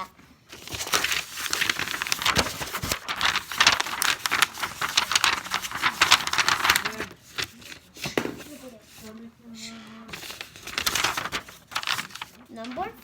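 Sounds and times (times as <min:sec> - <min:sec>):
paper crumpling: 0:00.0 - 0:09.3, 0:10.0 - 0:13.0.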